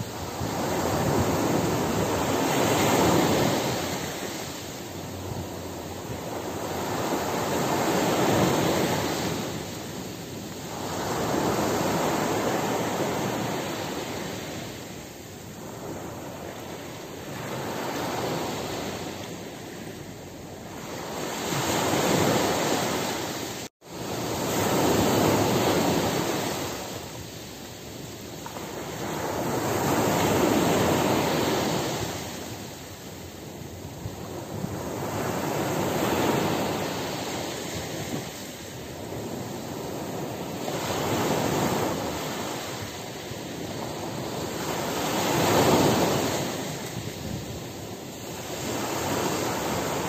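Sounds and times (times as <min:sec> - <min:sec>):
ocean waves breaking on beach: 0:00.0 - 0:50.0.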